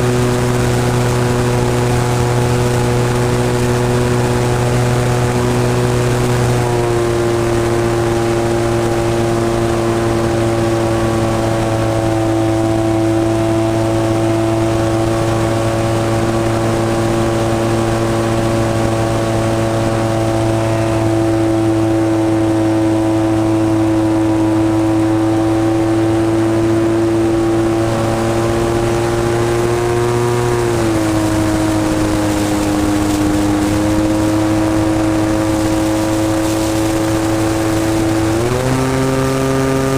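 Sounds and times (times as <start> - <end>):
model airplane engine running: 0.0 - 39.9.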